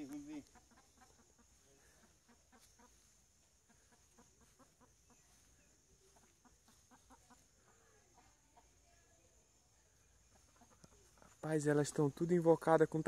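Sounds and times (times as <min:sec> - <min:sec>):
hens clucking: 0:00.0 - 0:12.3.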